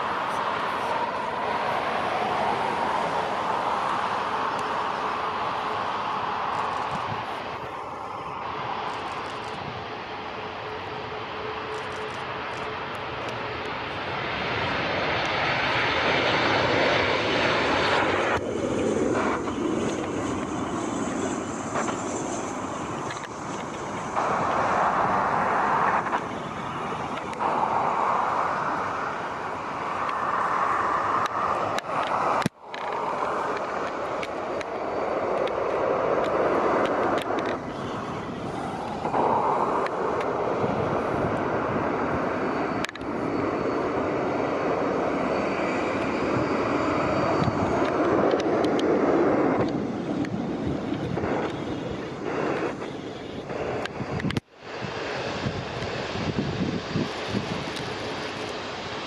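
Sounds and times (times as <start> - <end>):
jet engines rushing: 0.0 - 59.0.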